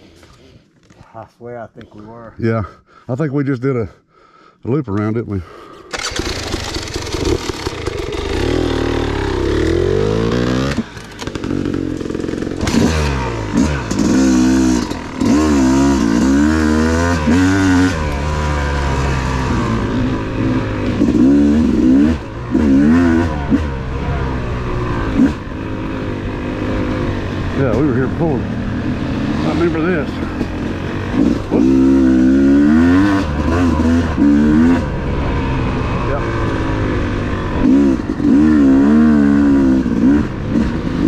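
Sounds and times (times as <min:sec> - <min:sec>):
two-stroke dirt bike engine revving: 0:05.9 - 0:41.0.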